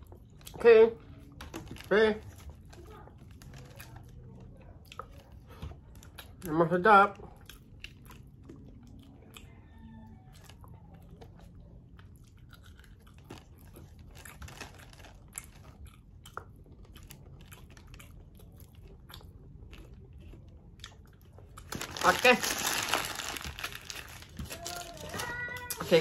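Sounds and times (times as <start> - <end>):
chewing and crunching: 0.0 - 26.0.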